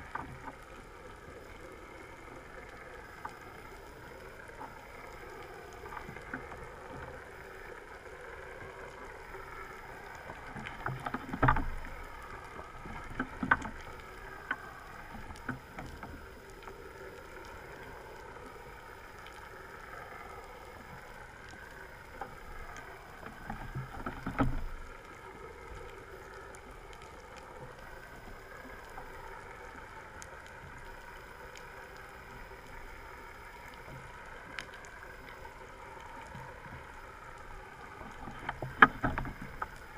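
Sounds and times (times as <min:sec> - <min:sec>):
crackling clicks: 0:00.0 - 0:39.9
underwater noise wash: 0:00.0 - 0:39.9.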